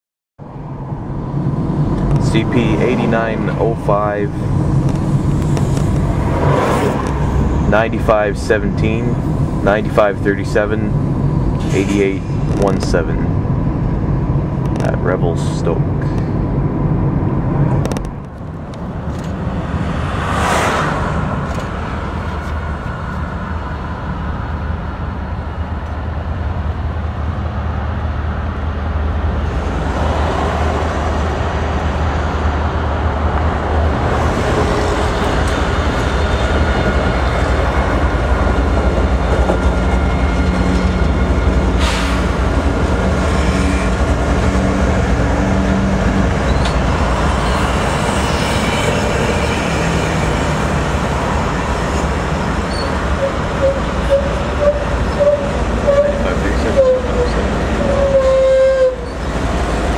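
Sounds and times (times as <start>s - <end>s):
freight locomotives rumbling: 0.4s - 59.9s.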